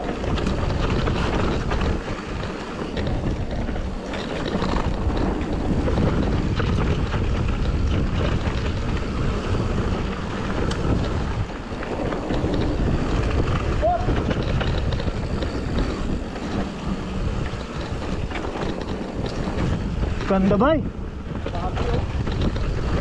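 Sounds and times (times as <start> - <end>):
bike clicks and rattles: 0.0 - 23.0
tyres rushing on dirt: 0.0 - 23.0
wind buffeting microphone: 0.0 - 23.0.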